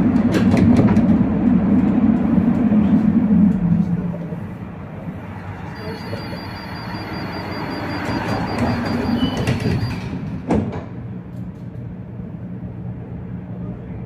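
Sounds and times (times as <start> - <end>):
road traffic passing: 0.0 - 14.0
tram electrical hum: 0.0 - 14.0.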